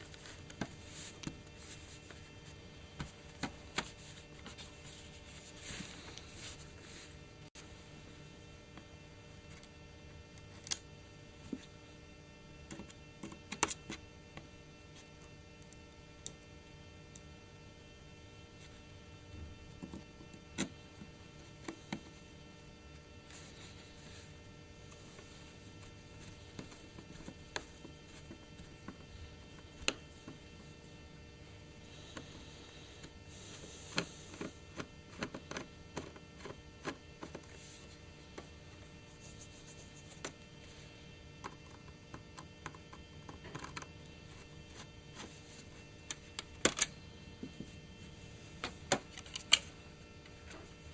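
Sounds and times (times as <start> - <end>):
steady electrical hum: 0.0 - 50.9.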